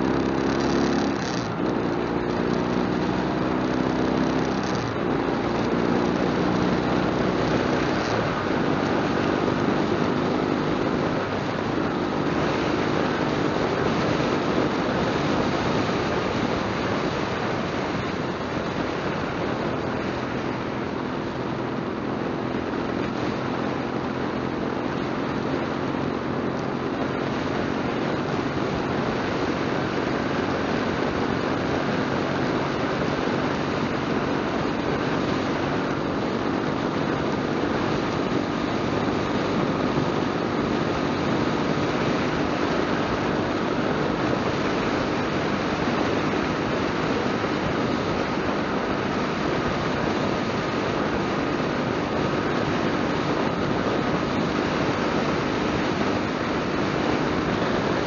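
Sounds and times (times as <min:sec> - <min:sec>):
motorcycle engine drone: 0:00.0 - 0:58.0.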